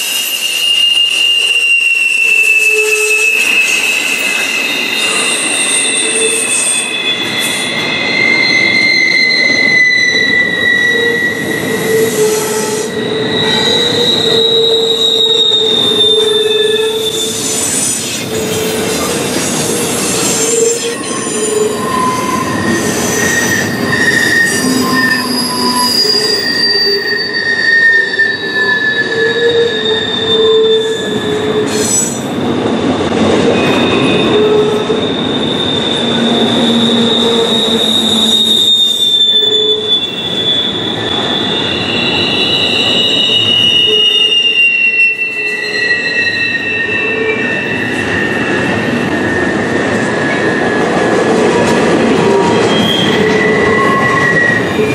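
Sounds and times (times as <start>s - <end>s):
wheels squealing: 0.0s - 32.4s, 33.4s - 54.9s
train wheels rumbling on rail: 0.0s - 54.9s.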